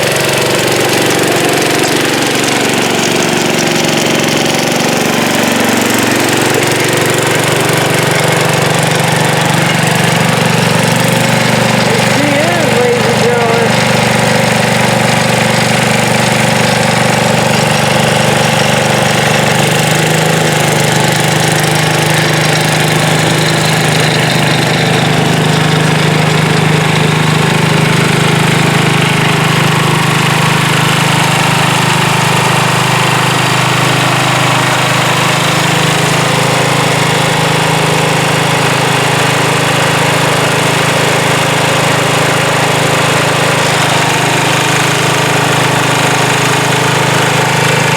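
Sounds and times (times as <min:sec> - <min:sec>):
garden tractor engine running: 0:00.0 - 0:47.9.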